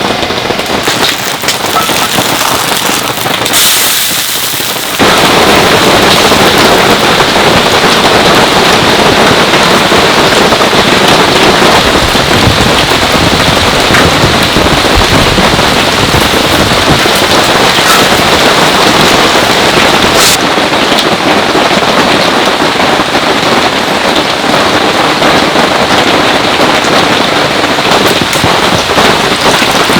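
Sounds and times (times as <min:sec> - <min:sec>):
heavy rain on a tent: 0:00.0 - 0:29.9.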